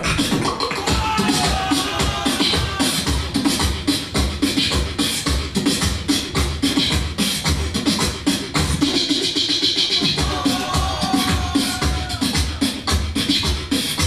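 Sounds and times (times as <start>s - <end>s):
person beatboxing: 0.0s - 14.0s.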